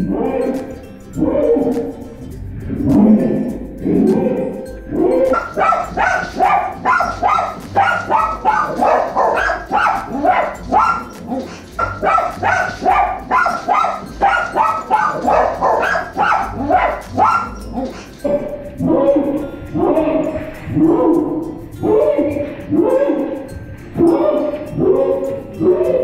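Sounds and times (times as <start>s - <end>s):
small dogs barking rapidly: 4.0s - 26.0s.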